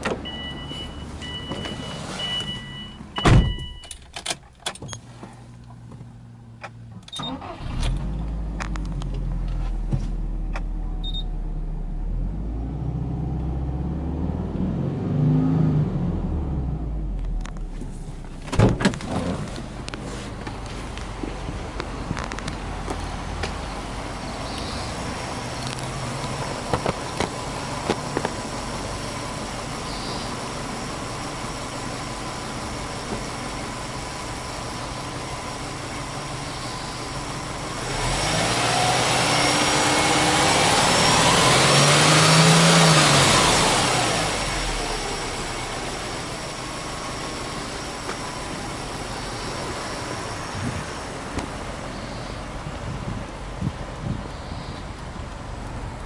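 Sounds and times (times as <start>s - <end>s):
car engine idling: 0.0s - 14.8s, 15.9s - 56.0s.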